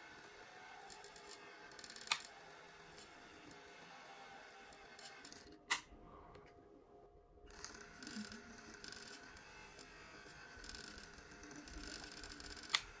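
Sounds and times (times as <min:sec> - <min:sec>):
small electric fan whine: 0:00.0 - 0:13.0.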